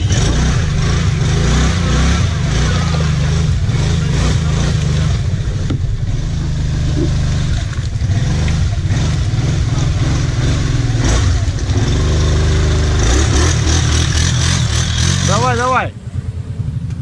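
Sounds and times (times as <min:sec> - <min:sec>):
quad bike engine revving: 0:00.0 - 0:15.8.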